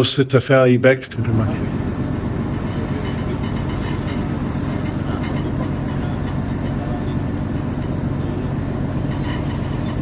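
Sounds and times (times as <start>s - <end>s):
low ship engine drone: 0.0s - 10.0s.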